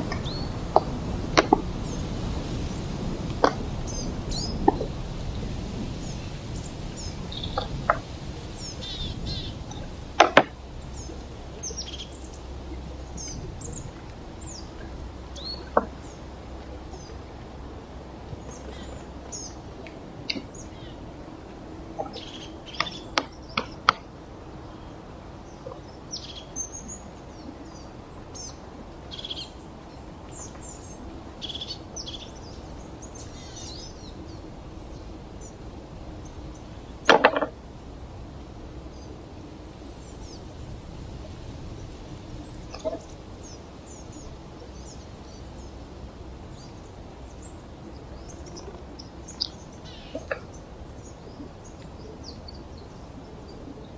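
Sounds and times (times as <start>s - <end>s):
small birds chirping: 0.0s - 17.3s, 22.0s - 37.4s, 38.9s - 53.9s
background hiss: 0.0s - 53.9s.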